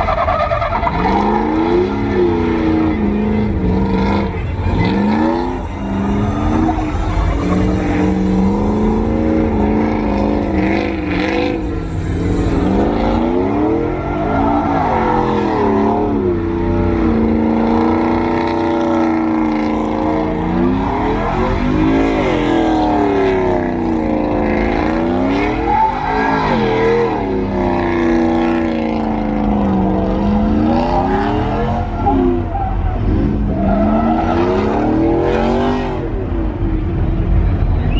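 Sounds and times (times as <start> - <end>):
truck engine revving: 0.0 - 37.9.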